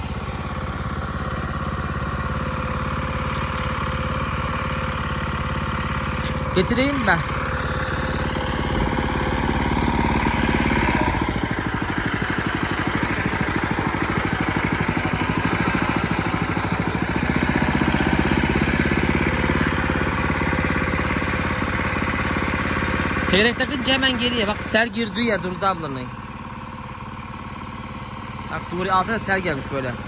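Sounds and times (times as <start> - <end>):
small petrol engine running: 0.0 - 30.0.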